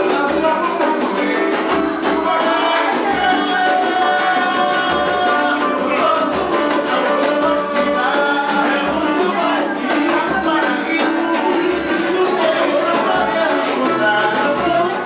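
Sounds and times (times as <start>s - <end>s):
person singing: 0.0s - 15.0s
plucked guitar: 0.0s - 15.0s.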